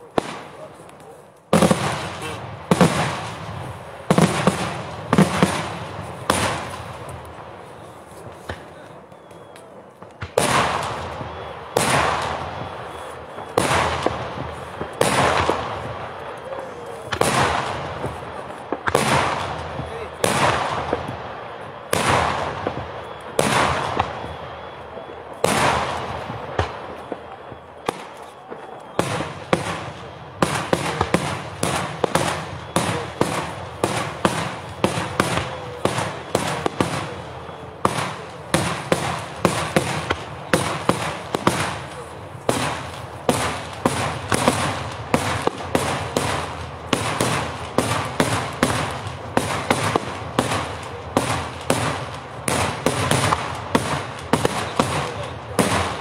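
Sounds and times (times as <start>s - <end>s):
rapid firework bangs: 0.0s - 56.0s.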